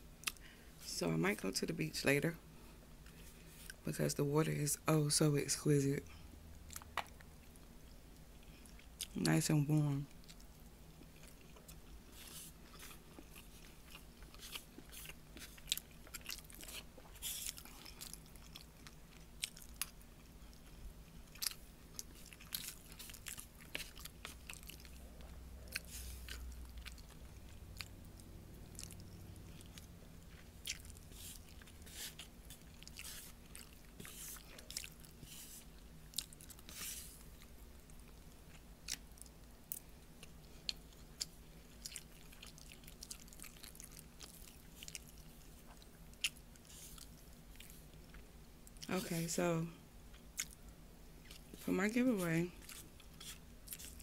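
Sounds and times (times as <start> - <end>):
chewing with soft mouth clicks: 0.2 - 0.5, 6.1 - 9.2, 10.1 - 48.9, 50.1 - 51.6, 52.6 - 54.0.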